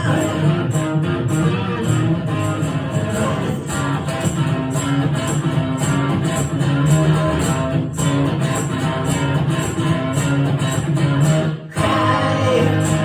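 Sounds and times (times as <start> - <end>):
guitar strumming: 0.0 - 13.0.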